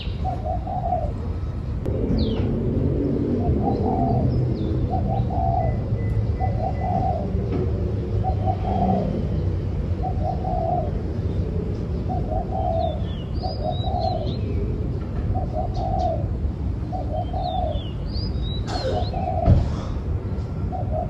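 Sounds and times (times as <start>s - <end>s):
dove cooing: 0.0s - 1.3s, 3.2s - 11.2s, 12.0s - 17.9s, 18.6s - 20.0s, 20.6s - 21.0s
steady low rumble: 0.0s - 21.0s.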